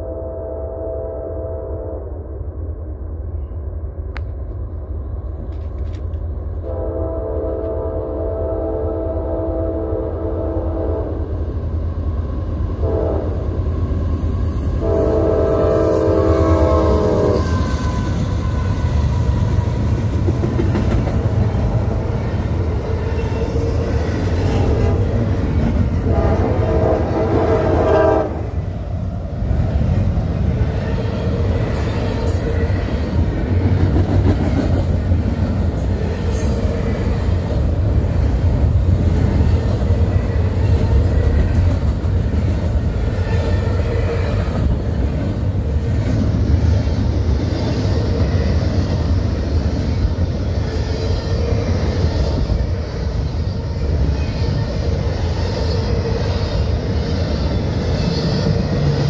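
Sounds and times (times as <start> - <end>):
freight train wheels rumbling and rattling: 3.3 - 6.8, 7.5 - 59.0.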